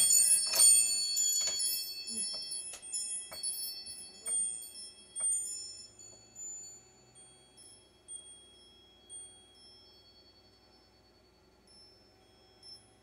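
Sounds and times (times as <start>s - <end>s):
metallic chimes ringing: 0.0s - 13.0s.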